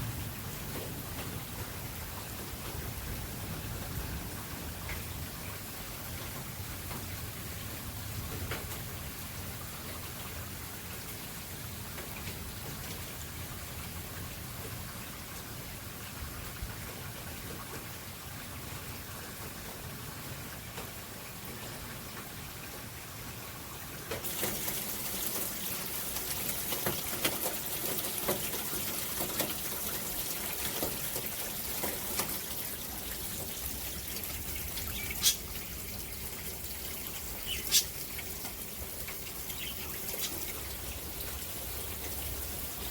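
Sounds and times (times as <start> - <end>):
rain falling: 0.0 - 42.9
water trickling and dripping: 0.0 - 42.9.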